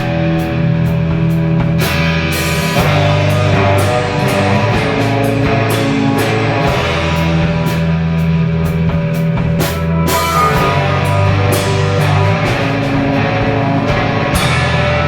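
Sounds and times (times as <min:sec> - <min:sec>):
bass: 0:00.0 - 0:15.0
drums and cymbals: 0:00.0 - 0:15.0
electric guitars: 0:00.0 - 0:15.0.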